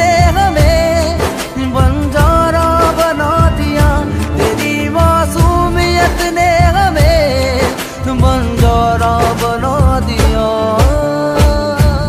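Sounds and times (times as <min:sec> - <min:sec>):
film-style love song: 0:00.0 - 0:12.0
steady drum beat: 0:00.0 - 0:12.0.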